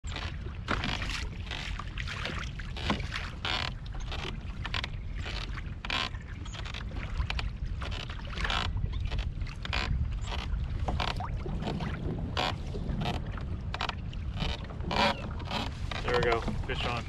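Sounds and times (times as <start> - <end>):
wind rumble on microphone: 0.0 - 17.0
water splashing against kayak hull: 0.1 - 17.0.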